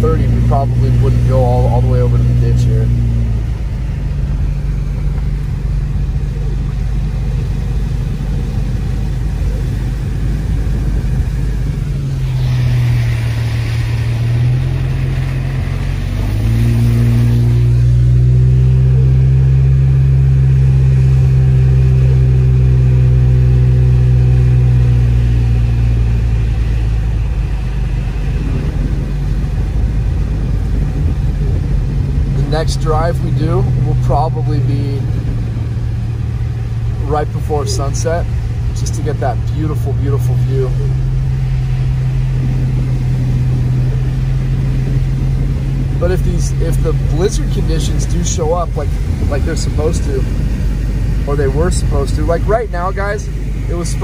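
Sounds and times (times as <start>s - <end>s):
car engine hum: 0.0s - 54.0s
road noise inside car: 0.0s - 54.0s
hissing rush: 0.4s - 54.0s.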